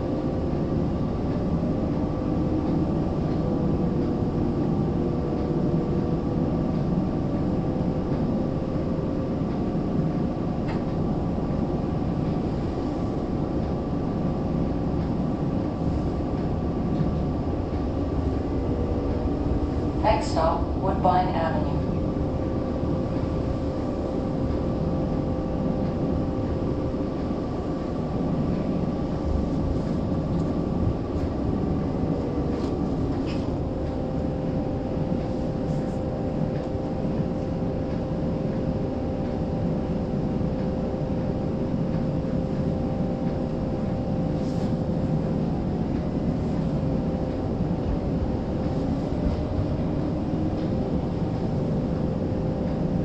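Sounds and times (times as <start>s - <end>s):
steady hums: 0.0s - 53.0s
streetcar wheels rumbling: 0.0s - 53.0s.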